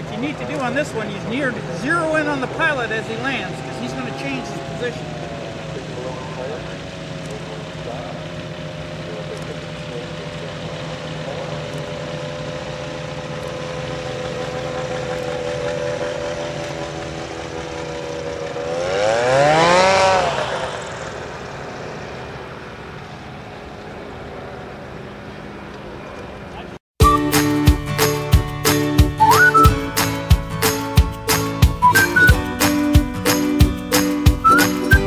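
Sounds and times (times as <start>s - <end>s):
ultralight engine and propeller: 0.0s - 35.0s.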